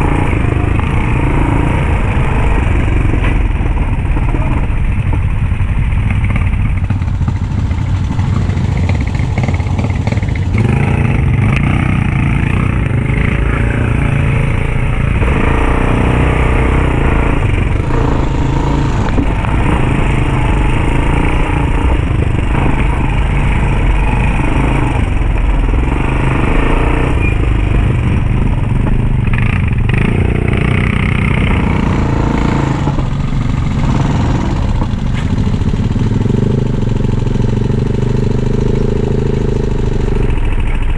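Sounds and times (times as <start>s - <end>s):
quad bike engine revving: 0.0s - 40.9s.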